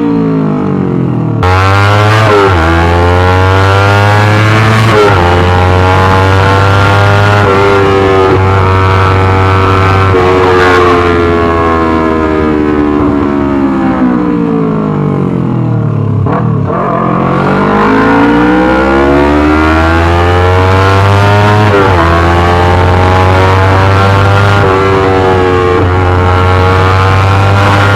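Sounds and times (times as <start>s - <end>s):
loud motorcycle engine: 0.0s - 27.9s.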